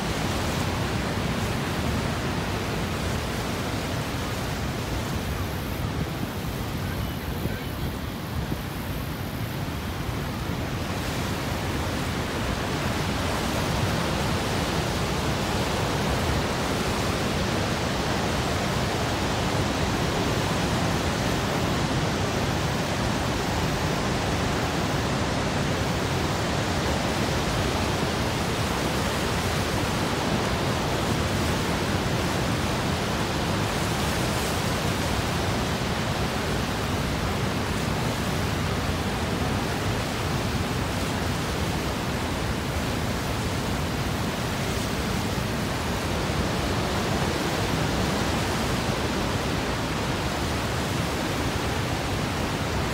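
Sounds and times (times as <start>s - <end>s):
waterfall and rapids rushing: 0.0s - 52.9s.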